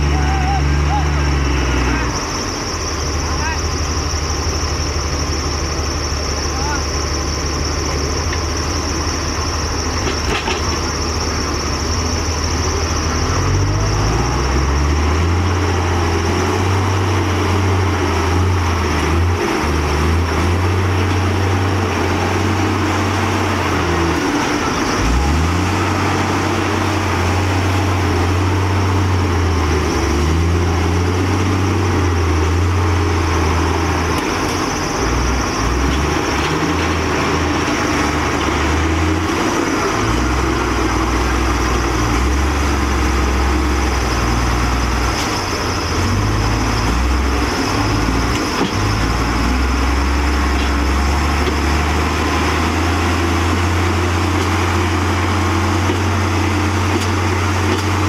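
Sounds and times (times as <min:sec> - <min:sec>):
heavy diesel engines under load: 0:00.0 - 0:58.0.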